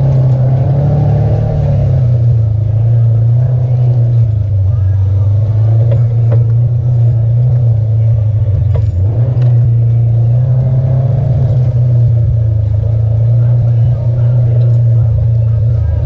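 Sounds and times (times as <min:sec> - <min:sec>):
utility vehicle engine droning: 0:00.0 - 0:16.0.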